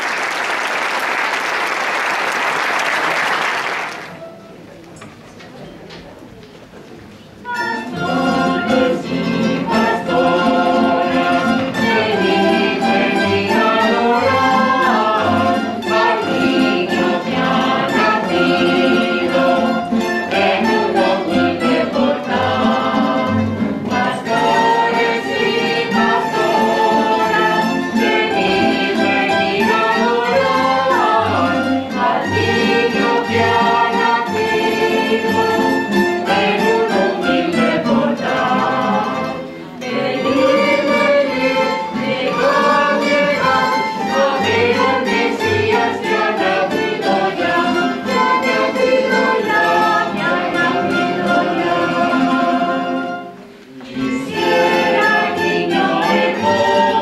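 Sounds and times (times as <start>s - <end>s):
plucked guitars ensemble: 4.0s - 57.0s
choir singing: 7.5s - 57.0s.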